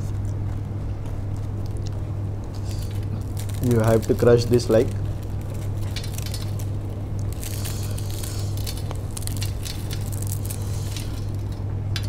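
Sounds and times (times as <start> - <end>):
crisp wafers crackling: 0.2 - 12.0.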